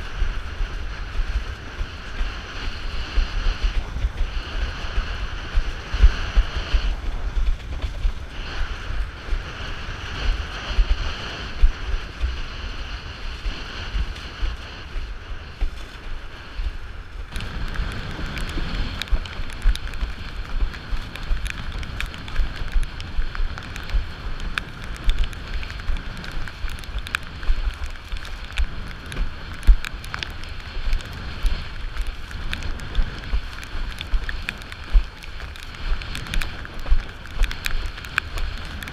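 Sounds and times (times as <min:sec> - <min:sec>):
water rushing and slapping along hull: 0:00.0 - 0:38.9
wind buffeting microphone: 0:00.0 - 0:38.9.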